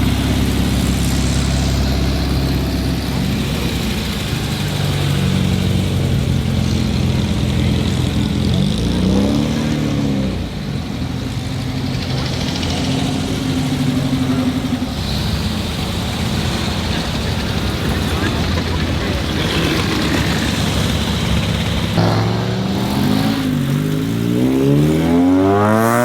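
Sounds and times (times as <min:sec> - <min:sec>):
car engine revving: 0:00.0 - 0:26.0
car engines idling: 0:00.0 - 0:26.0.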